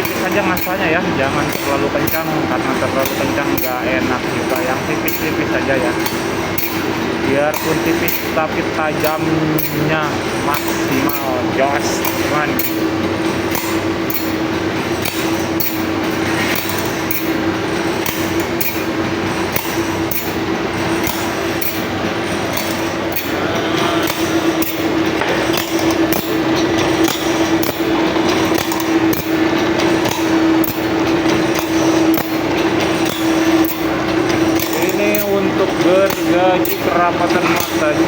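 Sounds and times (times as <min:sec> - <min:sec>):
grinder motor hum: 0:00.0 - 0:38.0
rhythmic grinding click: 0:00.0 - 0:38.0.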